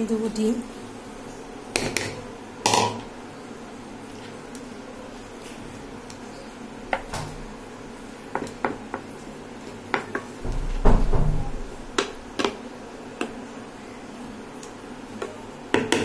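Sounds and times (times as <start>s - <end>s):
faint hum: 0.0s - 15.7s.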